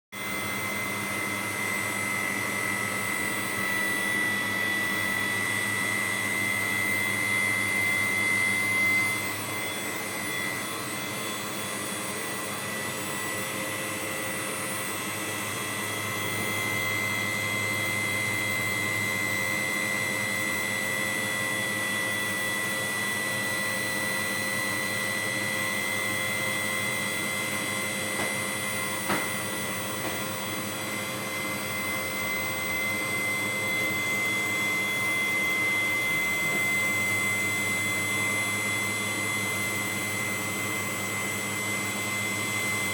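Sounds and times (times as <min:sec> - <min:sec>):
machine whine and hum: 0:00.2 - 0:42.9.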